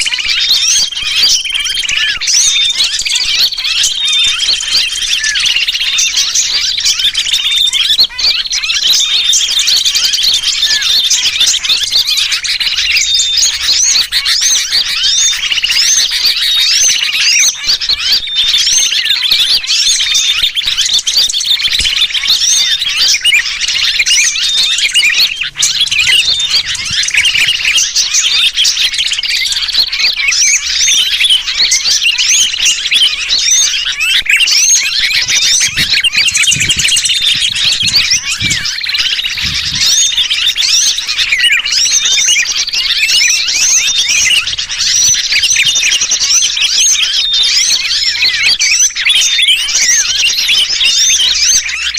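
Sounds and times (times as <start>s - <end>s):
bird distress calls: 0.0s - 51.9s
small birds chirping: 0.0s - 51.9s.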